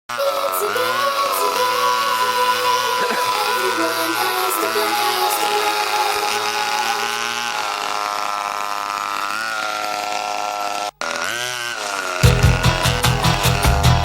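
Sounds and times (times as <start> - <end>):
small engine revving: 0.1 - 14.0.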